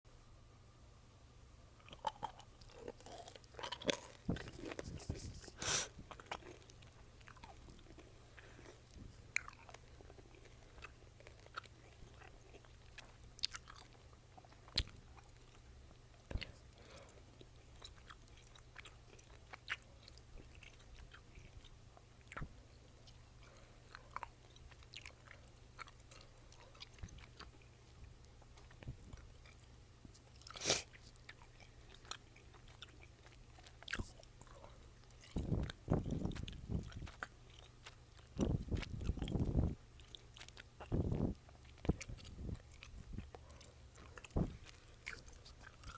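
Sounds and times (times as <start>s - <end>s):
chewing gum wet smacks: 1.8s - 45.9s.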